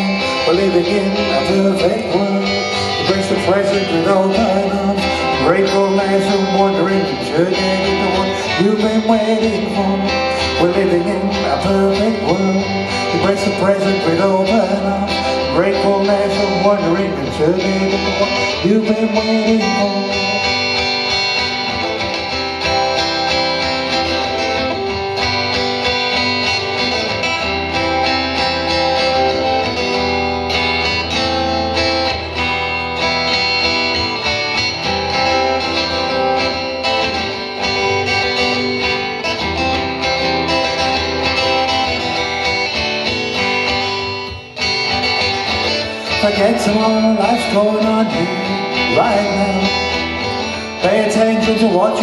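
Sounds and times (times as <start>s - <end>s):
acoustic guitar playing: 0.0s - 52.0s.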